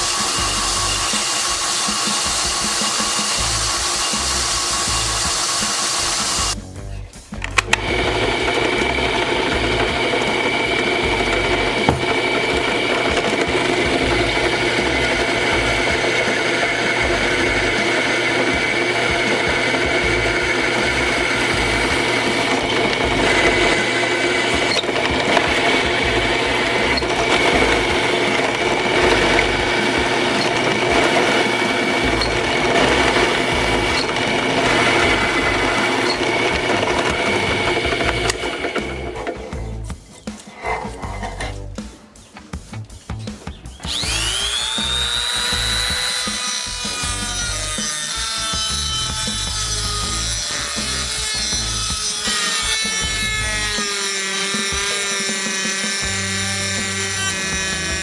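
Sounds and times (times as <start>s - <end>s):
power tool motor whining: 0.0s - 41.9s, 43.7s - 58.0s.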